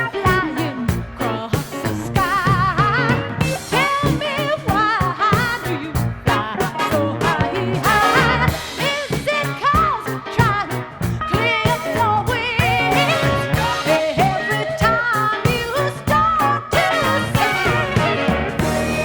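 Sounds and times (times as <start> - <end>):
pop song with vibrato melody: 0.0 - 19.0.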